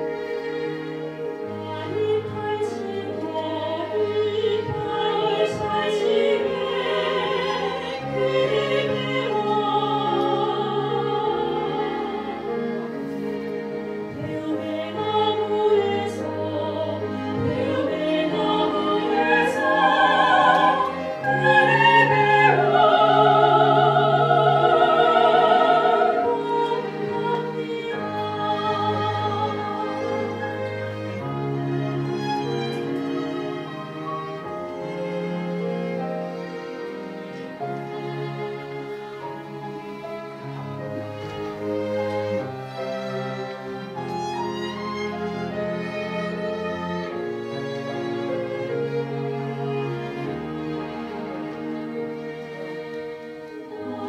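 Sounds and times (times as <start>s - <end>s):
string ensemble: 0.0s - 54.0s.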